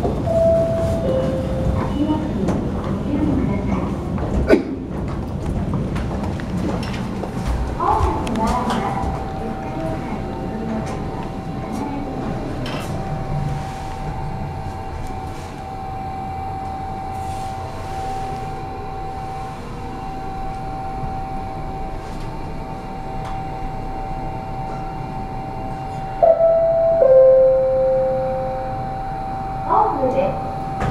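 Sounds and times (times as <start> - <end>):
elevator arrival chime: 0.0 - 2.5, 7.9 - 30.9
elevator whine and rumble: 0.0 - 30.9.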